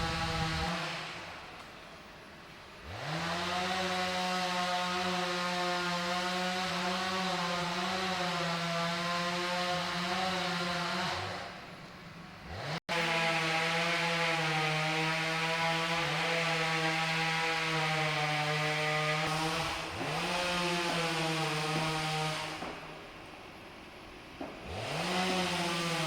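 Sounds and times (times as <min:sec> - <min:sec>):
chainsaw engine revving: 0:00.0 - 0:01.4, 0:02.8 - 0:11.7, 0:12.4 - 0:22.9, 0:24.6 - 0:26.0.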